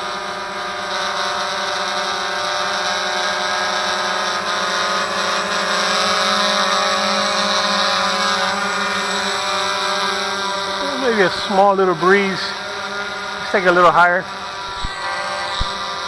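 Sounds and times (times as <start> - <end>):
quadcopter propellers buzzing: 0.0 - 16.0.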